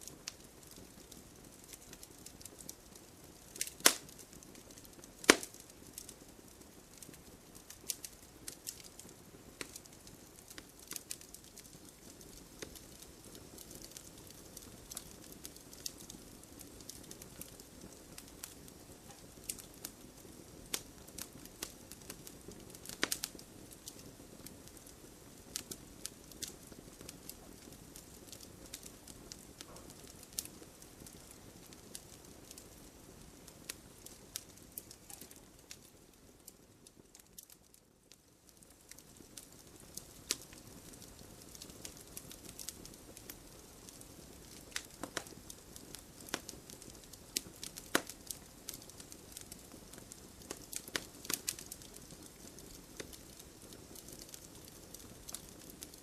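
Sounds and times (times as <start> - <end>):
campfire crackling and popping: 0.0 - 56.0
soft low hiss of fire: 0.0 - 56.0.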